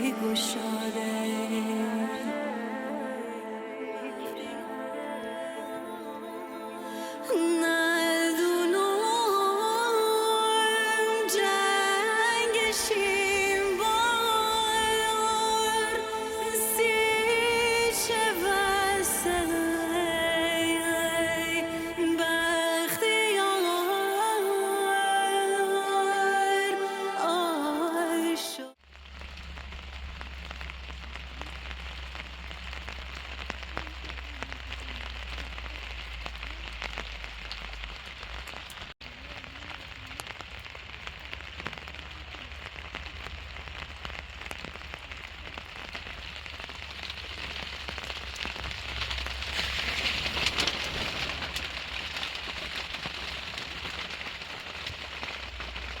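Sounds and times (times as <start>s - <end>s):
rain drops ticking on surfaces: 0.0s - 3.1s, 6.9s - 27.9s, 28.7s - 56.0s.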